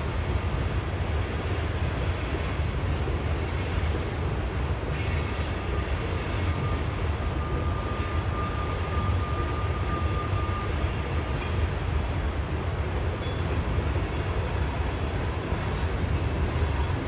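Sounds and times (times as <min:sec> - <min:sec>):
train cars rumbling on rails: 0:00.0 - 0:17.0.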